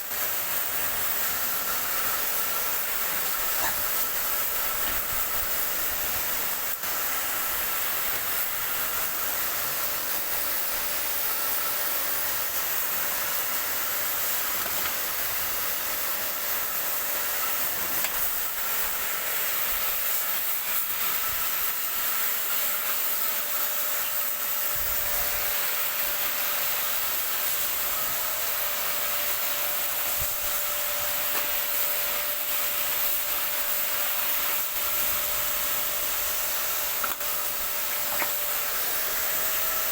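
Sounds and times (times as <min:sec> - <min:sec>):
water spray hissing: 0:00.0 - 0:39.9.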